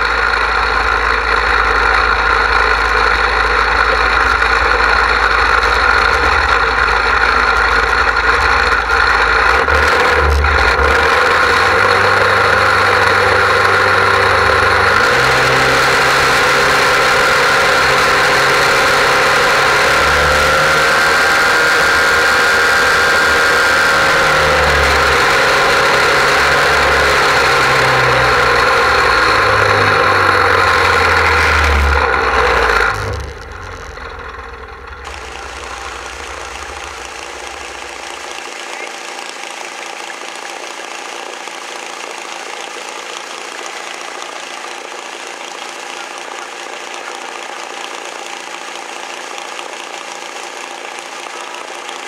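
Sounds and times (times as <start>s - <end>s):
pump engine running: 0.0s - 52.0s.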